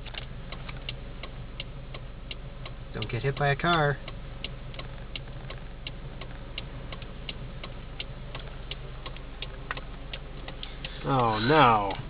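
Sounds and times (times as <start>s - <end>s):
faint steady ticking: 0.0s - 12.0s
low steady hum: 0.0s - 12.0s.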